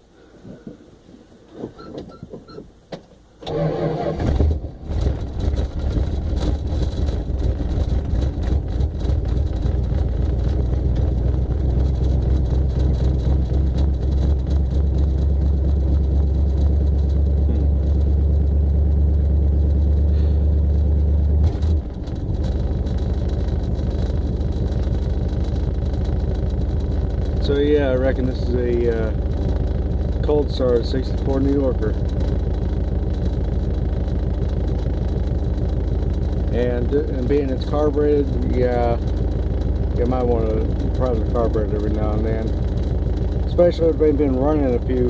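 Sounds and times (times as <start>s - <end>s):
car engine starting and idling: 0.1s - 45.0s.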